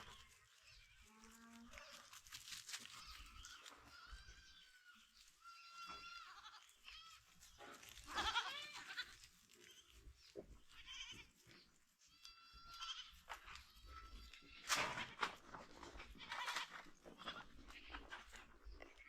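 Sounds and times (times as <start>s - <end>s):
goats bleating: 0.0s - 2.2s, 2.8s - 10.0s, 10.6s - 15.2s, 16.1s - 19.0s.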